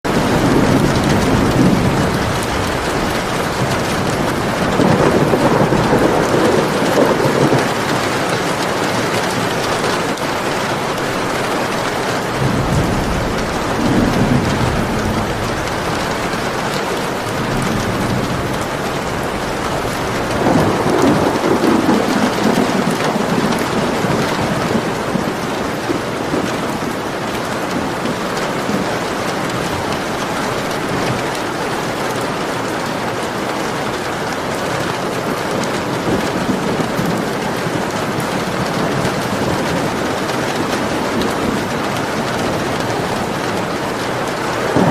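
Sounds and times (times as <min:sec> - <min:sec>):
heavy rain falling: 0:00.0 - 0:44.9
rolling thunder: 0:00.1 - 0:44.9.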